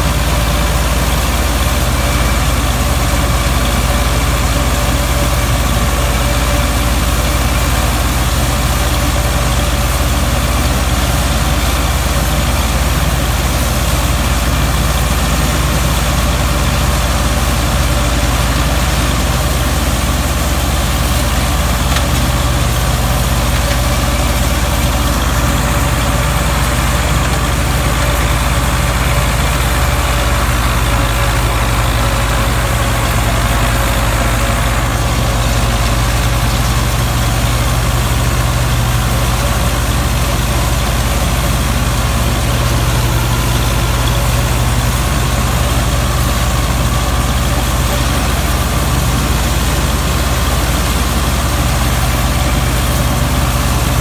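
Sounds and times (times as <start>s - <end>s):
straw chopper rushing noise: 0.0s - 54.0s
tractor diesel engine drone: 0.0s - 54.0s.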